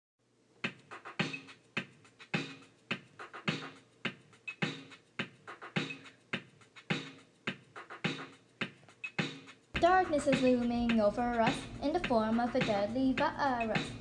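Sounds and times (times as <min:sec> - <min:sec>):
hip-hop beat: 0:00.6 - 0:14.0.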